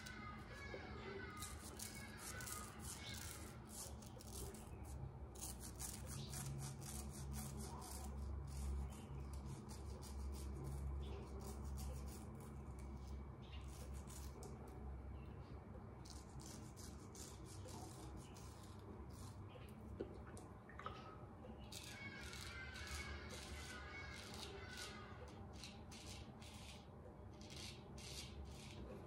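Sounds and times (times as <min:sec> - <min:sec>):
razor scraping stubble: 0:00.0 - 0:14.6, 0:16.0 - 0:19.8, 0:21.7 - 0:29.0.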